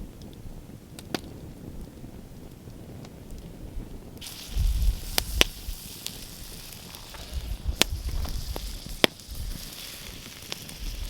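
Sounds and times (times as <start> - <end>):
campfire crackling: 0.0 - 11.0
fire hissing: 0.0 - 11.0
fire pops: 0.0 - 11.0.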